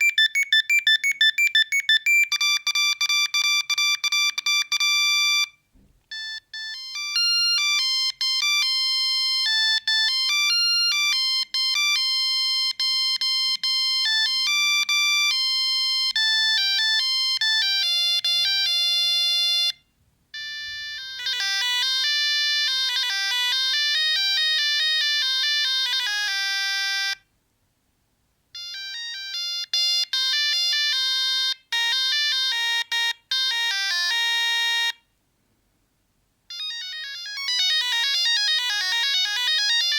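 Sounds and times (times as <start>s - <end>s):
mobile phone ringtones beeping: 0.0s - 19.8s, 20.4s - 27.2s, 28.6s - 35.0s, 36.5s - 39.9s.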